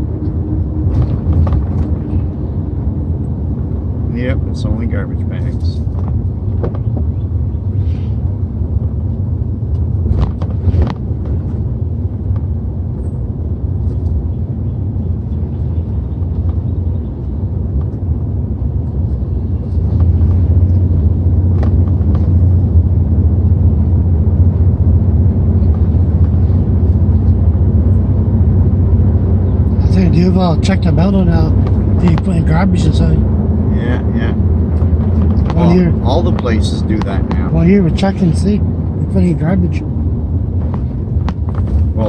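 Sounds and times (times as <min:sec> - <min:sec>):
truck engine and road rumble: 0:00.0 - 0:42.0.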